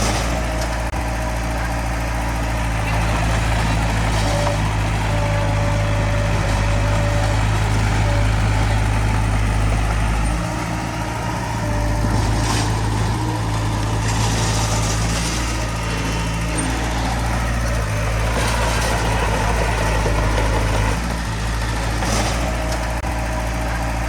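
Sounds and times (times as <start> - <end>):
heavy diesel engine humming: 0.0 - 24.0.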